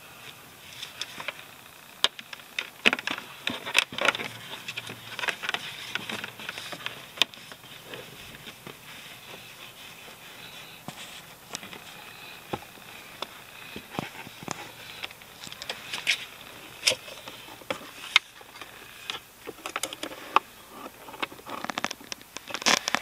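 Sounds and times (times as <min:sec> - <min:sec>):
hands handling a cable: 0:02.0 - 0:23.0.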